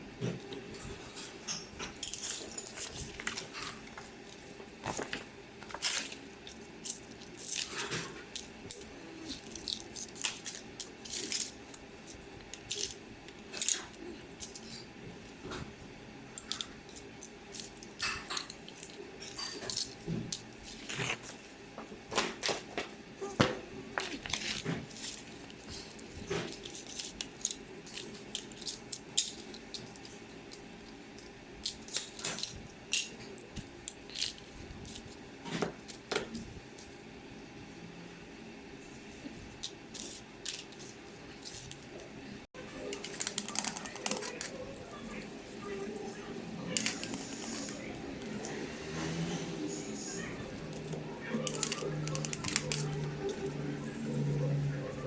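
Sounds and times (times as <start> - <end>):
small parts and tools clicking: 1.2 - 14.9, 16.4 - 21.4, 24.0 - 35.2, 39.6 - 42.0, 42.8 - 55.0.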